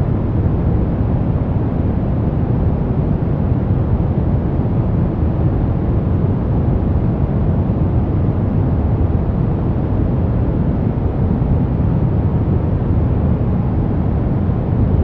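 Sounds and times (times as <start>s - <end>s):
brown noise rumbling hiss: 0.0s - 15.0s.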